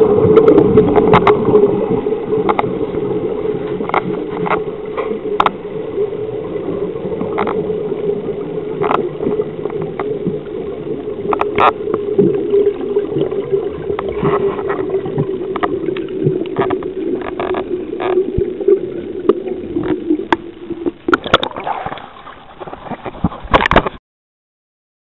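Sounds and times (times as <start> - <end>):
low underwater drone: 0.0 - 23.7
water splashing: 0.0 - 24.0.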